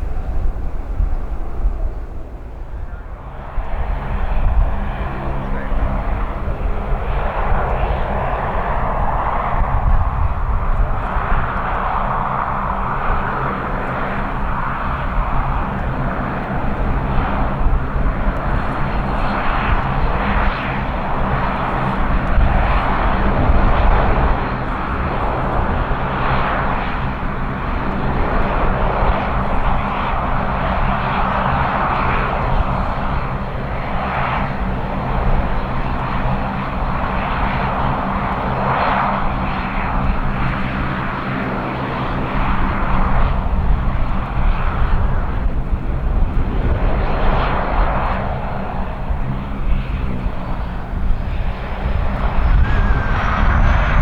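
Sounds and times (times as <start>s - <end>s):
turboprop engines running: 0.0s - 54.0s
wind on microphone: 0.0s - 54.0s.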